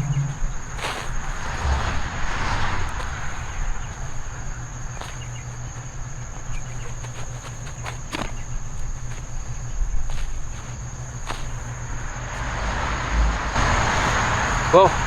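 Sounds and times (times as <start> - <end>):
hands digging through soil: 0.0 - 12.1
broad rushing noise: 0.0 - 15.0
crickets trilling: 0.0 - 15.0.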